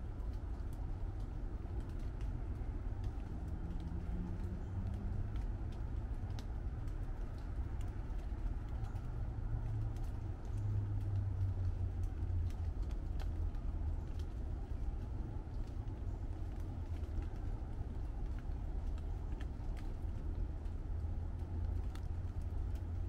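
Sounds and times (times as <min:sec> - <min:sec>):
raindrops ticking on leaves: 0:00.0 - 0:23.0
steady low rumble: 0:00.0 - 0:23.0.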